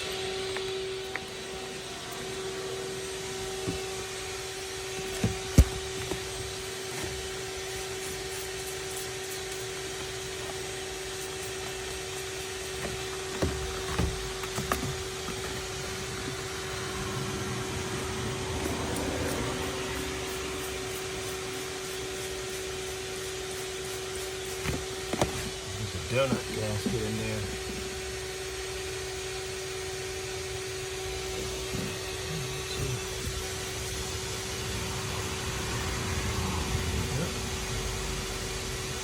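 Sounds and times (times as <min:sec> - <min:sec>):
shop vacuum motor whine: 0:00.0 - 0:39.0.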